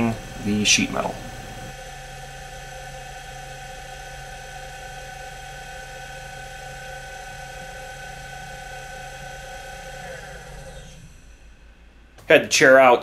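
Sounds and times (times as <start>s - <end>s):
mill spindle whine: 0.0s - 12.4s.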